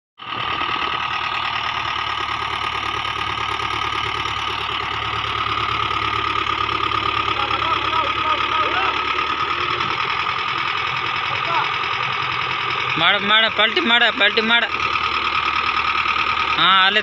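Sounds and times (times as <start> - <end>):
diesel tractor engine running: 0.2 - 17.0.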